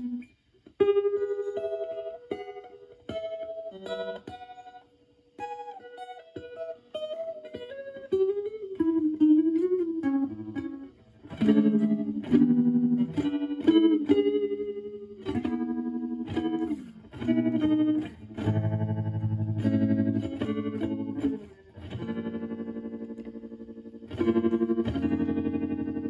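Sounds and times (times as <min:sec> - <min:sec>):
clean electric guitar with tremolo: 0:00.0 - 0:26.0.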